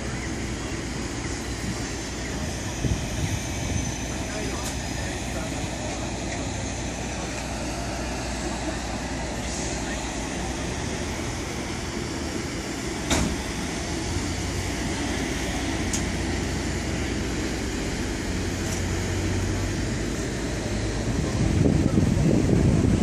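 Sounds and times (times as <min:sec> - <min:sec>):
engine idling: 0:00.0 - 0:23.0
street noise: 0:00.0 - 0:23.0.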